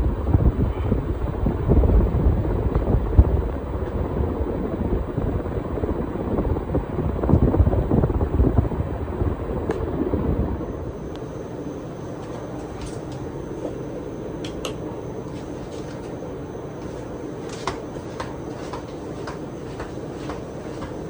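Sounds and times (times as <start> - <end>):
air buffeting microphone: 0.0 - 21.0
ceiling fan rumble: 0.0 - 21.0.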